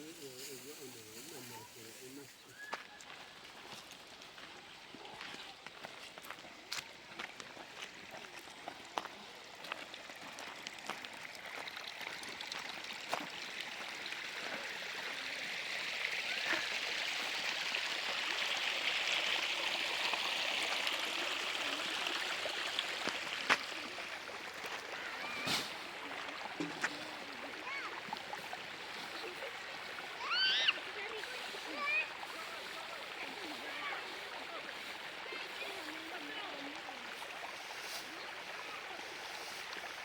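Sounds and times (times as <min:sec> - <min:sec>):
stream water running: 0:00.0 - 0:40.0.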